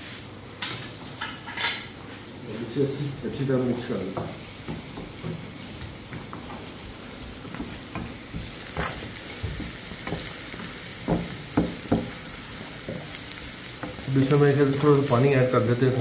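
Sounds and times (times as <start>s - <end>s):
masala sizzling in oil: 1.8s - 16.0s.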